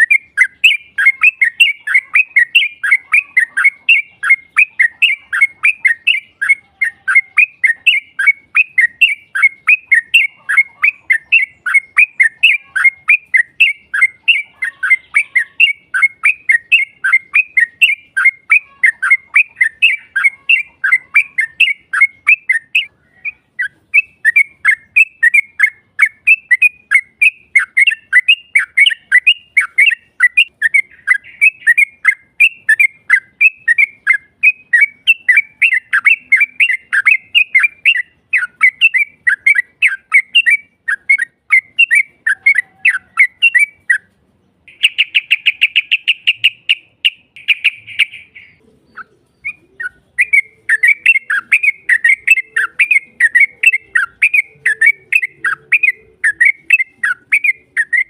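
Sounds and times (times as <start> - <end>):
bird singing chattering notes: 0.0 - 58.0.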